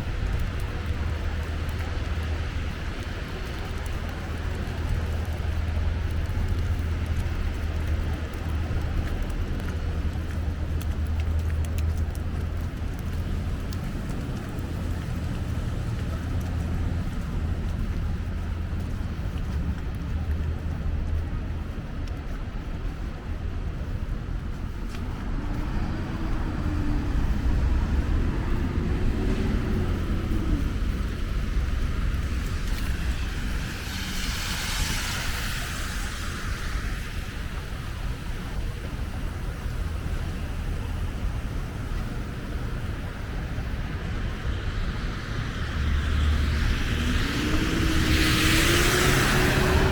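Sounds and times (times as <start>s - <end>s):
low rumble of vehicle engines: 0.0s - 49.9s
tyres hissing on wet street: 0.0s - 49.9s.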